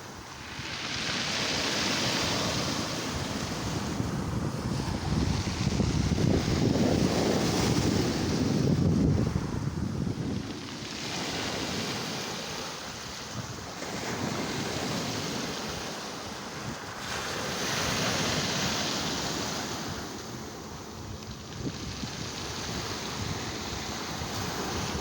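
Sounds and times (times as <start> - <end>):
sea waves washing ashore: 0.0 - 25.0
wind on microphone: 0.0 - 25.0.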